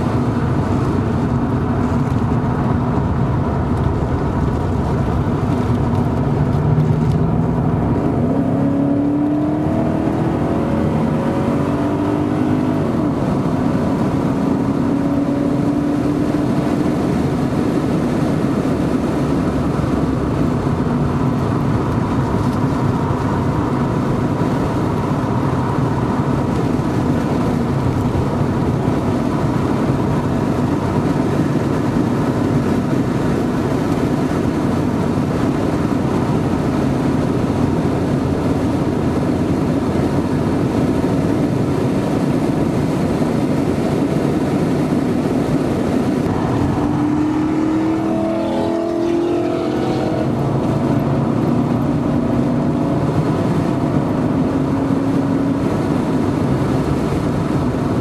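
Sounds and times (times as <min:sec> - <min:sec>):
car engine accelerating: 0:00.0 - 0:58.0
wind noise: 0:00.0 - 0:58.0.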